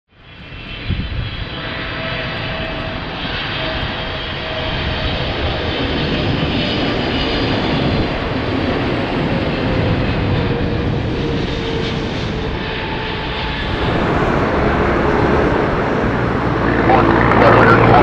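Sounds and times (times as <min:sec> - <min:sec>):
jet airliner roar overhead: 0:00.1 - 0:18.0.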